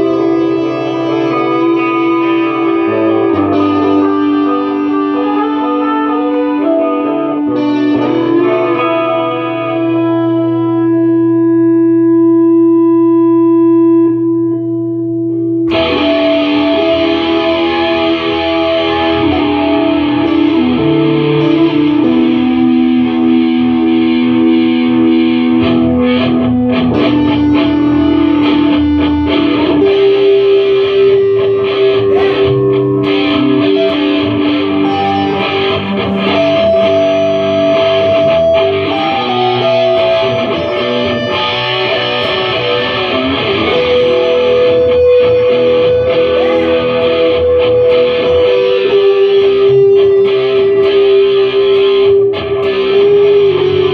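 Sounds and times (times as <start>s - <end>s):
distorted electric guitar: 0.0s - 53.9s.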